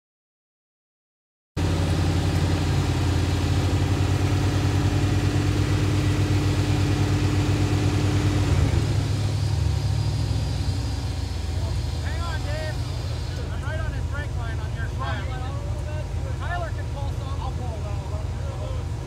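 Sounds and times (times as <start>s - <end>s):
buggy engine running: 1.6s - 19.0s.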